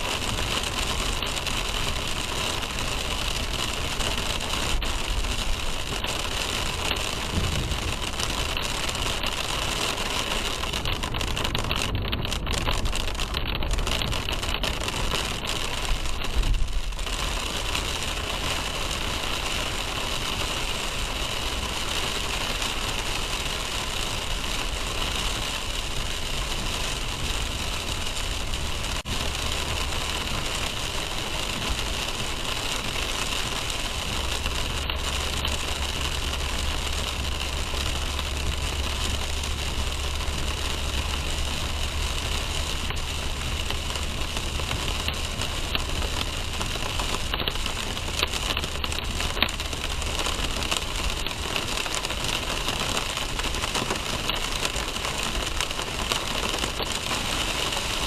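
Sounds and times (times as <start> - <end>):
car engine and road hum: 0.0 - 58.0
constant hiss: 0.0 - 58.0.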